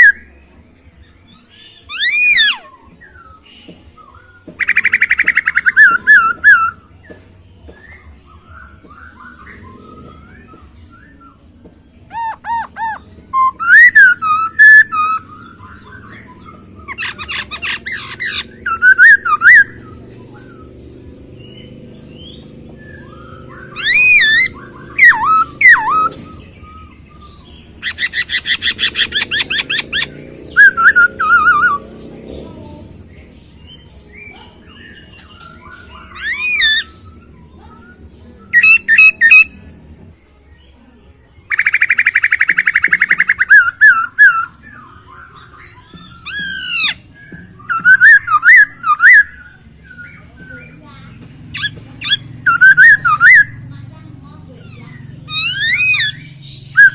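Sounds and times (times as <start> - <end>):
laughingthrush singing: 4.6 - 7.0, 11.9 - 39.8, 41.5 - 56.9.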